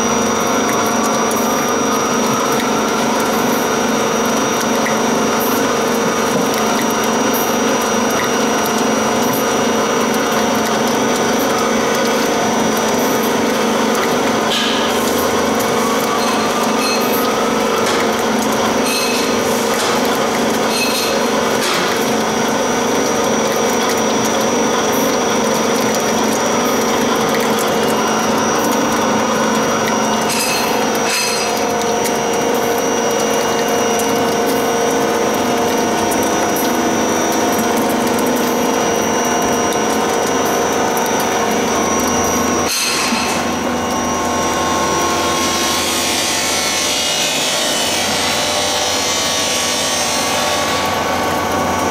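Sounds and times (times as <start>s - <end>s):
oil press running: 0.0s - 51.9s.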